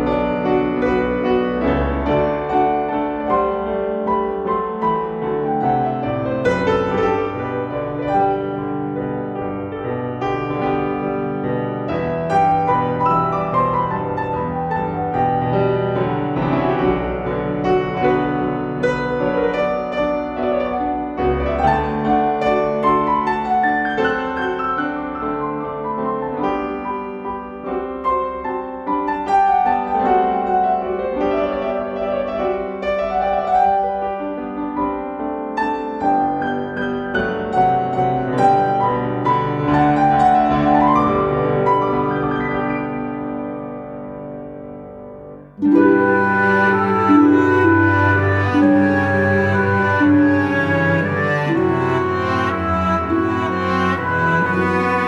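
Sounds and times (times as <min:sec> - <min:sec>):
solo classical piano: 0:00.0 - 0:55.0.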